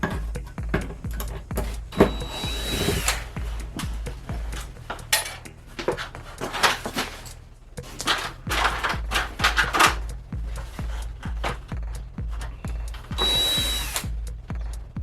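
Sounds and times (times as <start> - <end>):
tools knocking and clattering: 0.0 - 13.8
background music: 0.0 - 15.0
power tool whining: 0.8 - 11.5, 12.4 - 14.1.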